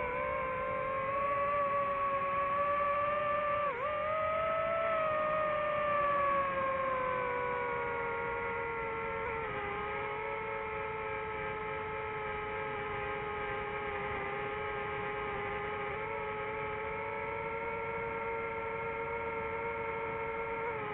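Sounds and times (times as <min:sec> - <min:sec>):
drone propellers whining: 0:00.0 - 0:20.9.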